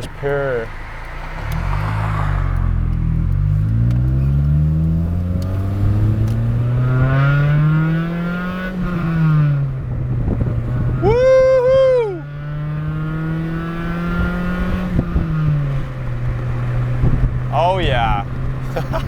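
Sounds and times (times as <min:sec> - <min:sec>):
raspy car engine accelerating: 0:00.0 - 0:11.0, 0:12.3 - 0:17.4.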